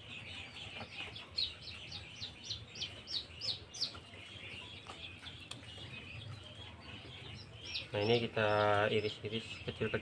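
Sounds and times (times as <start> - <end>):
other birds chirping faintly: 0.0 - 10.0.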